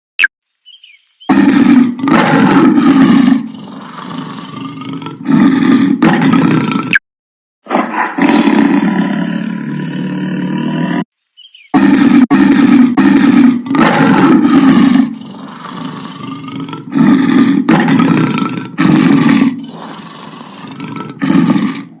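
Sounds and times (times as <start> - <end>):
lion roaring: 1.3 - 6.9, 7.7 - 11.1, 11.7 - 22.0.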